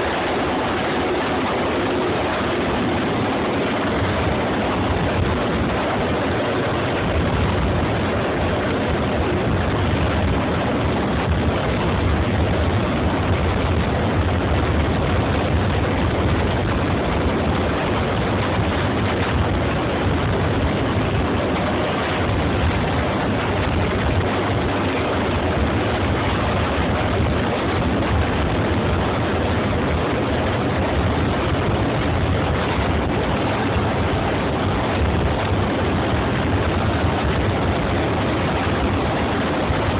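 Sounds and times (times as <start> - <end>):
helicopter rotor and engine noise: 0.0 - 39.9
rushing rotor wash: 0.0 - 39.9.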